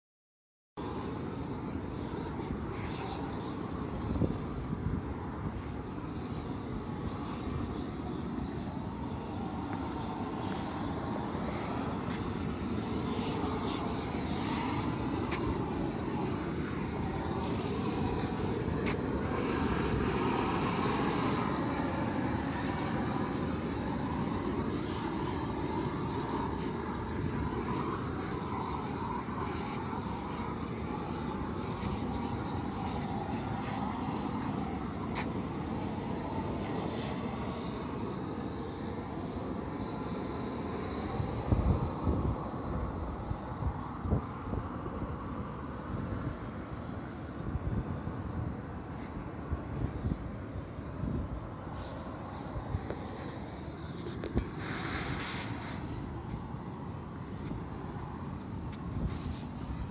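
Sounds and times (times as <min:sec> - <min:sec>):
roofing torches hissing: 0:00.8 - 0:59.9.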